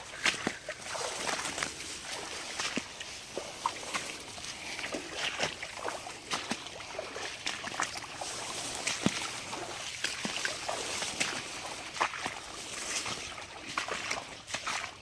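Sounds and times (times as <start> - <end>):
boots sloshing through floodwater: 0.0 - 15.0.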